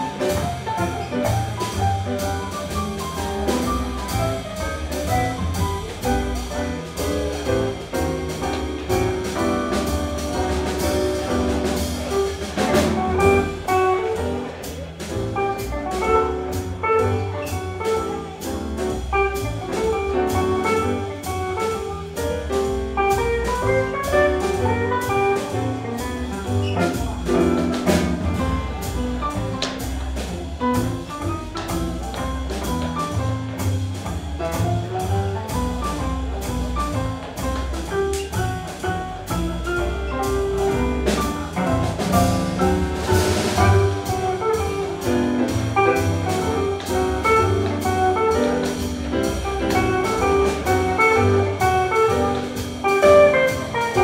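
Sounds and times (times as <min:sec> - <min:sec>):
drums swing beat on cymbals: 0:00.0 - 0:54.0
swing jazz band playing: 0:00.0 - 0:54.0.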